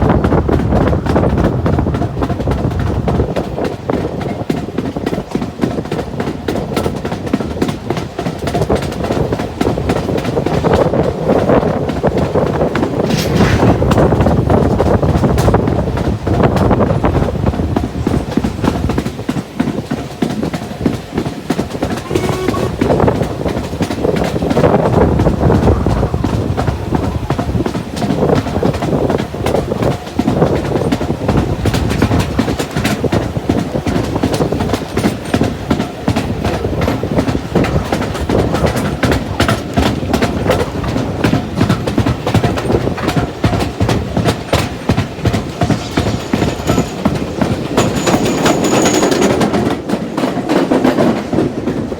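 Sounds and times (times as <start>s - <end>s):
train rumbling: 0.0s - 51.9s
wheels clicking over rail joints: 0.0s - 51.9s.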